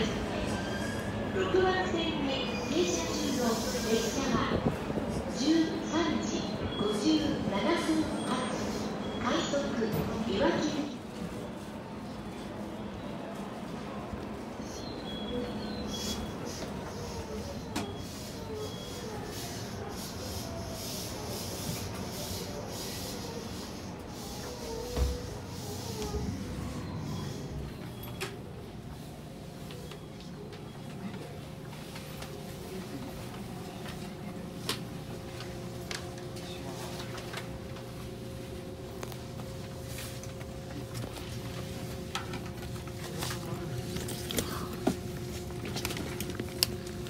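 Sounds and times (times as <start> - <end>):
train interior hiss and hum: 0.0 - 47.0.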